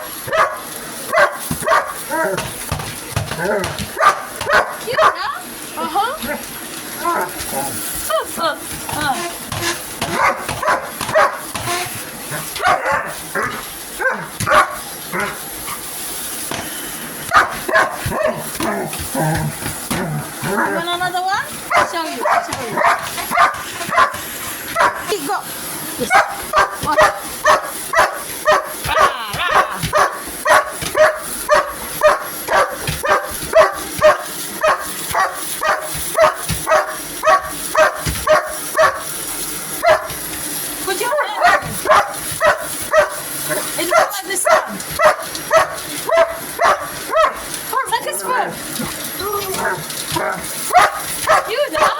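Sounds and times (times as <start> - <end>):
dog barking and whining: 0.0 - 5.4, 6.1 - 15.9, 17.2 - 25.4, 26.0 - 40.2, 40.9 - 47.5, 49.2 - 51.9.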